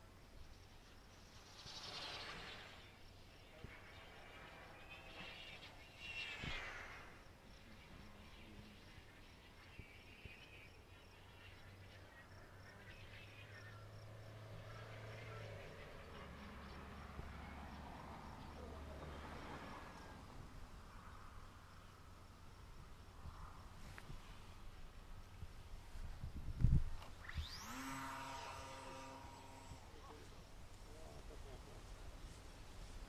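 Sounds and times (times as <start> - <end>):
faint outdoor background: 0.0 - 33.0.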